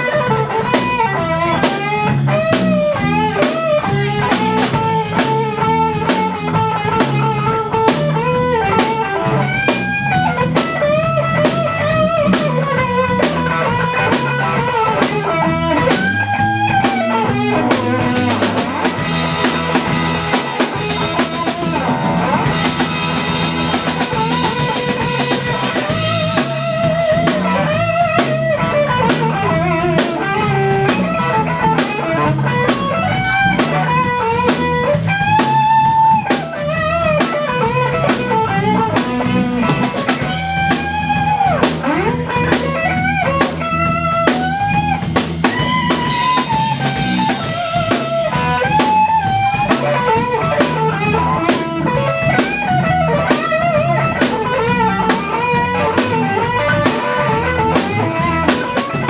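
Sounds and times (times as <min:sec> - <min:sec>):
bass guitar: 0:00.0 - 0:59.0
drum kit: 0:00.0 - 0:59.0
electric guitar solo: 0:00.0 - 0:59.0.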